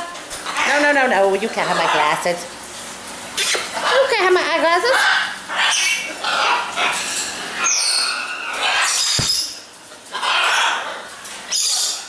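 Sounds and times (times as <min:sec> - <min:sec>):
parrots squawking: 0:00.4 - 0:02.5, 0:03.4 - 0:12.0.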